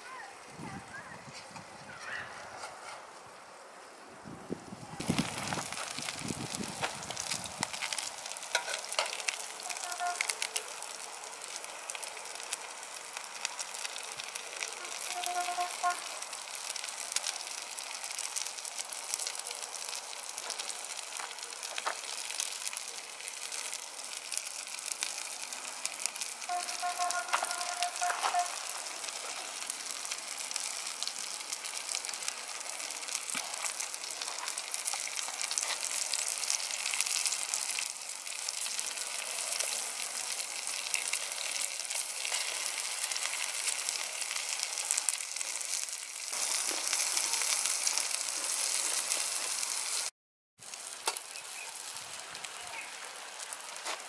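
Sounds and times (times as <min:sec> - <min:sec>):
fish sizzling in a frying pan: 0:05.0 - 0:54.0.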